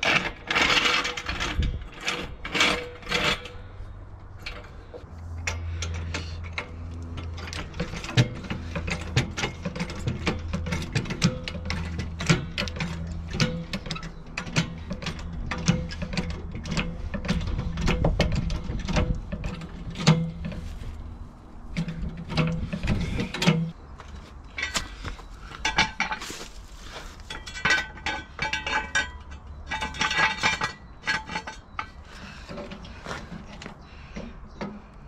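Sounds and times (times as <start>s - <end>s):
metal clinks and rattles: 0.1s - 20.7s, 21.7s - 33.8s.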